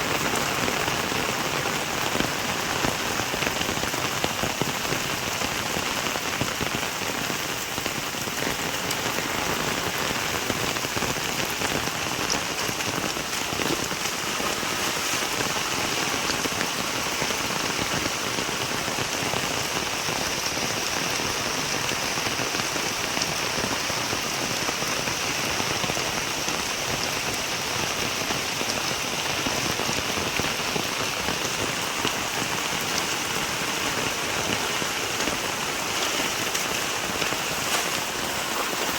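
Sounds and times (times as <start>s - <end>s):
rain pattering on surfaces: 0.0s - 38.9s.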